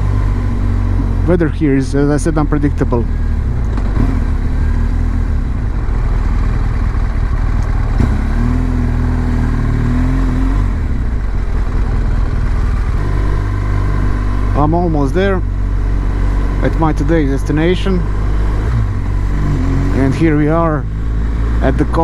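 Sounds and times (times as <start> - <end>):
motorcycle engine: 0.0 - 22.0
road and wind noise: 0.0 - 22.0.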